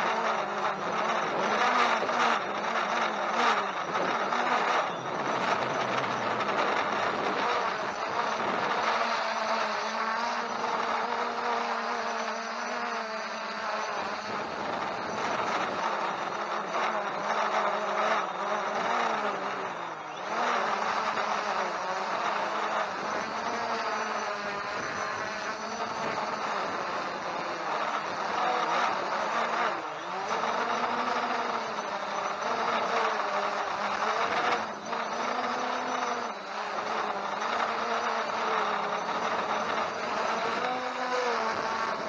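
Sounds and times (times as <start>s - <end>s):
drone propellers whirring: 0.0s - 42.0s.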